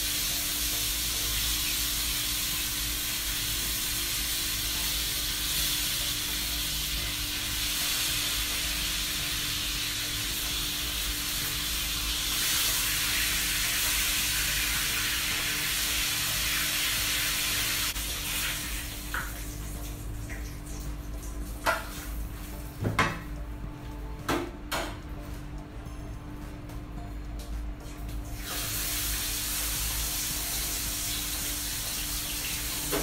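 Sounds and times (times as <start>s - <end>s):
food frying in hot oil: 0.0s - 22.6s, 28.3s - 33.0s.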